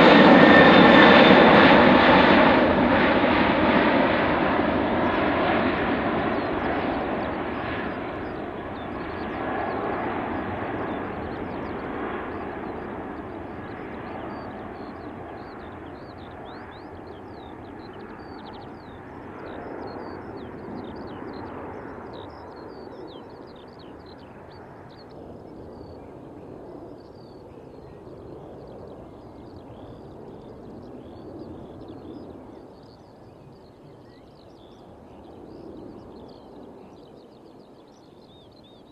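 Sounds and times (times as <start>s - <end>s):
jet engines of climbing airliner: 0.0s - 38.9s
small birds chirping: 4.4s - 38.9s.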